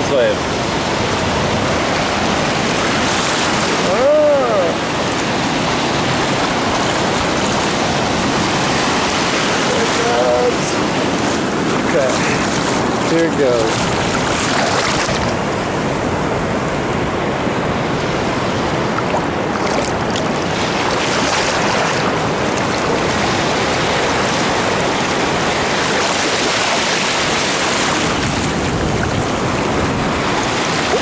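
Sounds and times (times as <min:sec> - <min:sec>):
surf washing over sand: 0:00.0 - 0:31.0.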